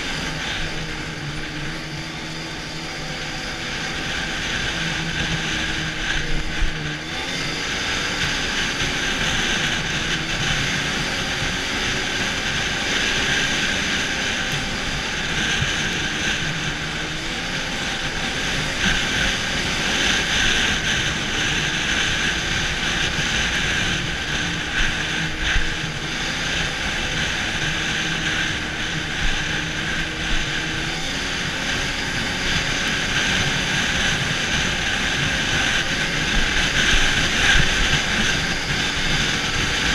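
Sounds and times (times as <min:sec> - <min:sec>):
rushing hiss of wind and track: 0:00.0 - 0:39.9
snowmobile engine cruising: 0:00.0 - 0:39.9.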